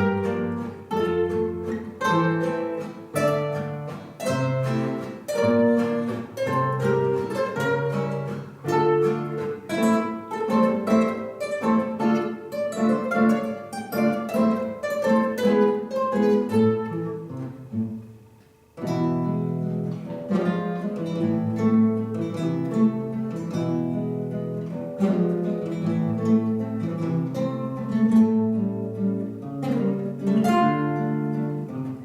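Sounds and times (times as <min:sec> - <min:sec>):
plucked-string ensemble playing a waltz: 0:00.0 - 0:32.0.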